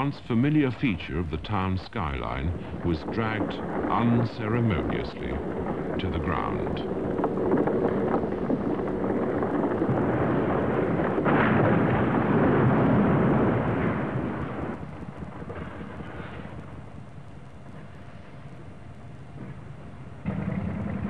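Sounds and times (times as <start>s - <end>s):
dome collapsing with rumbling crash: 0.0s - 18.6s, 19.2s - 21.0s.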